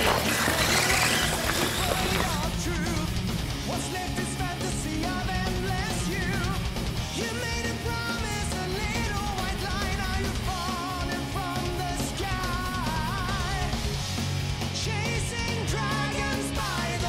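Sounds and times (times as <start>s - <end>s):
person singing: 0.0s - 13.9s, 14.8s - 17.0s
driving drum beat: 0.0s - 17.0s
rock guitar: 0.0s - 17.0s.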